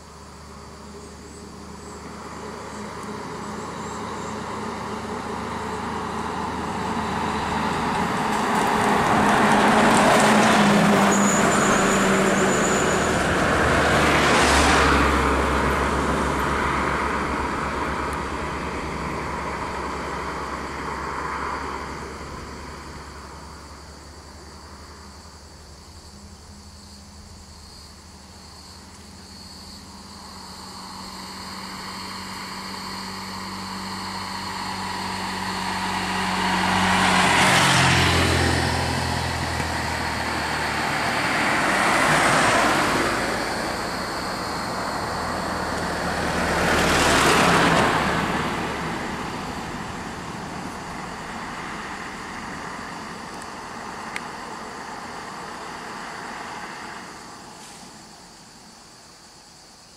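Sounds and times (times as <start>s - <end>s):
motor vehicles passing: 0.0s - 59.4s.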